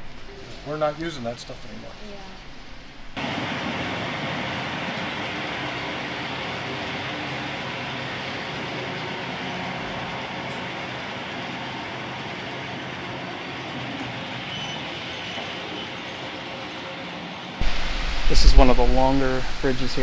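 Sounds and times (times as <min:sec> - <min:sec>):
model trains whirring on track: 0:00.0 - 0:20.0.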